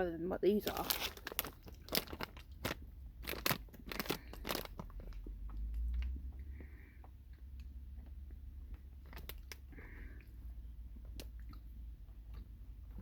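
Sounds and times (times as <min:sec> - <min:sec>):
candy chewing mouth noises: 0:00.6 - 0:12.8.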